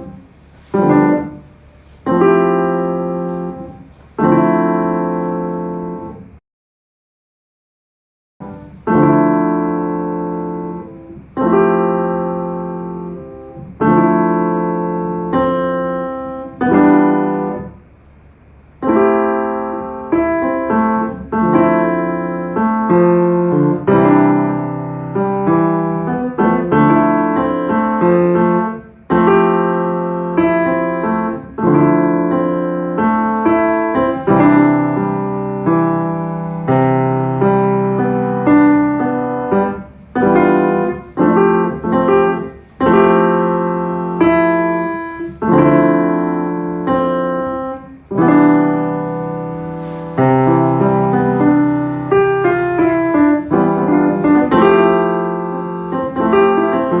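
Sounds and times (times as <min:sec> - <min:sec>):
piano chords: 0:00.0 - 0:06.4, 0:08.4 - 0:57.0.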